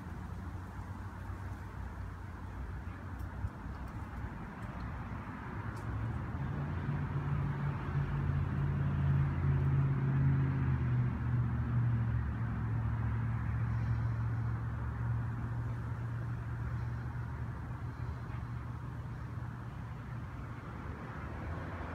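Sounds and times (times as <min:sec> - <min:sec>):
low engine hum: 0:00.0 - 0:21.9.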